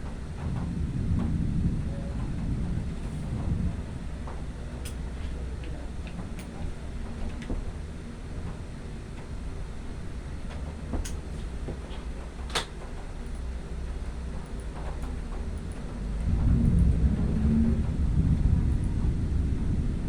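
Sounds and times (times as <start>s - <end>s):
thunder rumbling: 0.0s - 20.0s.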